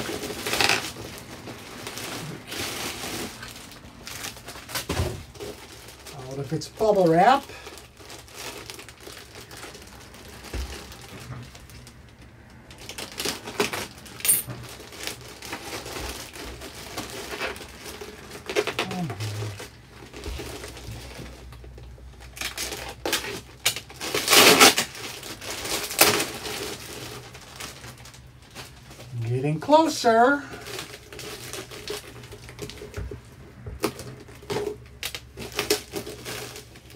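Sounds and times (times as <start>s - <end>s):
plastic and bubble wrap crinkling: 0.0s - 36.9s.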